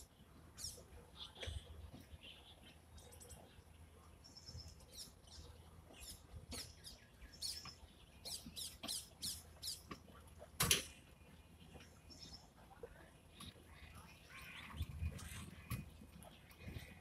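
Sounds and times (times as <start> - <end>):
small birds chirping: 0.0 - 10.2, 11.0 - 17.0.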